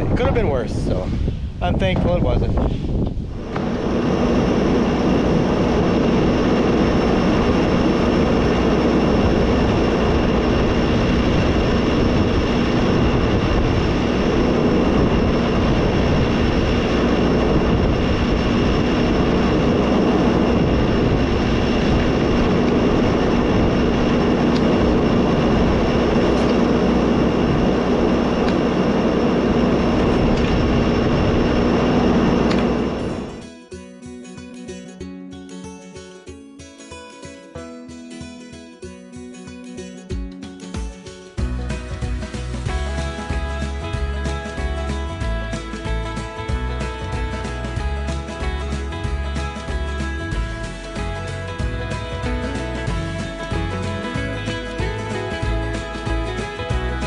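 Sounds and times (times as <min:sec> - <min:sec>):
farm machinery running: 0:03.3 - 0:33.4, 0:41.4 - 0:57.0.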